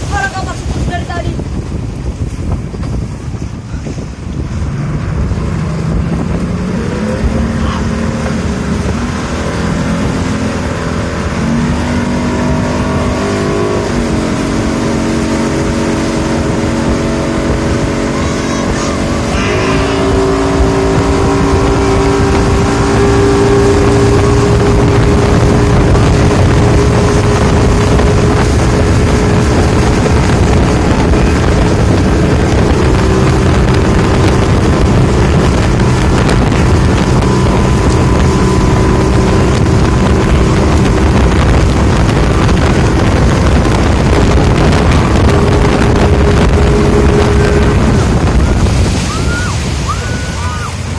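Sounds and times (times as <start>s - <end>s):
motorboat engine running: 0.0s - 50.9s.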